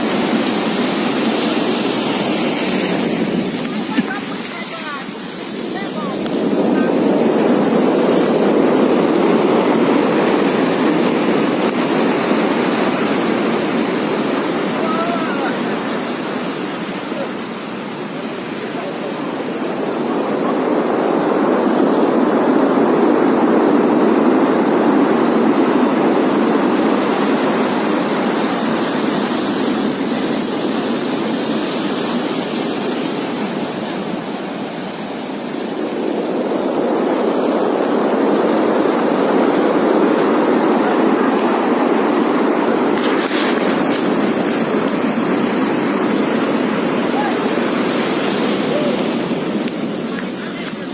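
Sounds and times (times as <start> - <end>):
strong wind gusts: 0.0 - 50.9.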